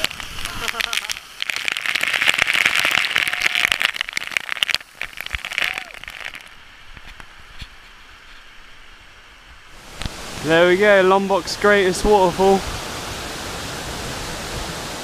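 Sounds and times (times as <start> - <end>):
steady rush of water: 0.0 - 15.0.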